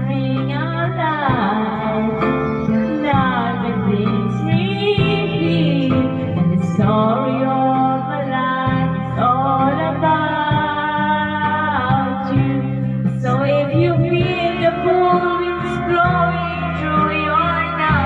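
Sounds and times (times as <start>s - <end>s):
backing track music: 0.0s - 18.0s
person singing karaoke: 0.0s - 18.0s.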